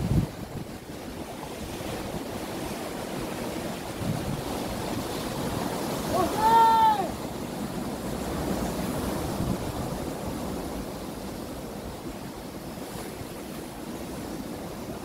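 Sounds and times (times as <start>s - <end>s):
surf washing over rocky shore: 0.0s - 15.0s.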